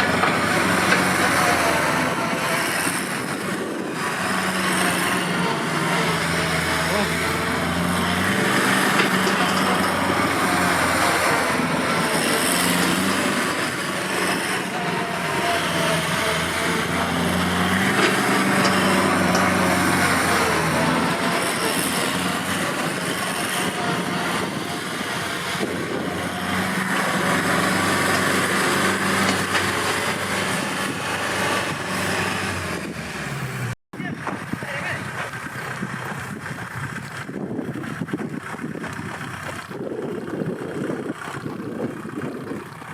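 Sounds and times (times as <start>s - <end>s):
tractor diesel engine running hard: 0.0s - 42.9s.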